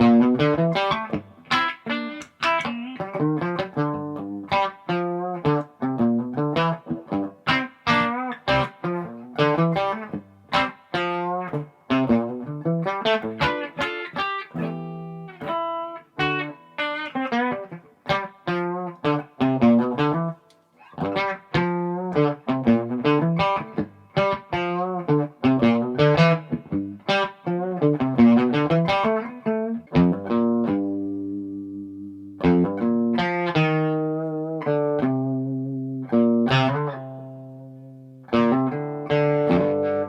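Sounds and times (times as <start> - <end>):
electric guitar playing: 0.0 - 40.0.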